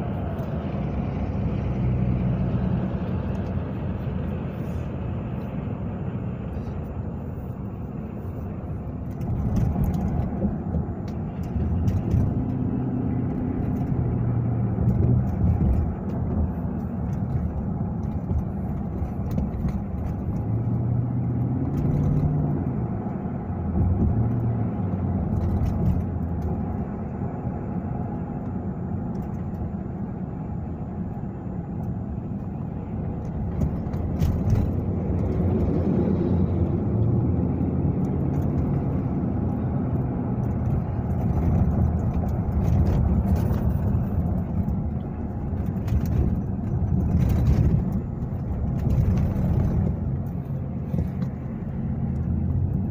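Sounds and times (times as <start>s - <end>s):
car engine rumble: 0.0s - 52.9s
tyres on road: 0.0s - 52.9s.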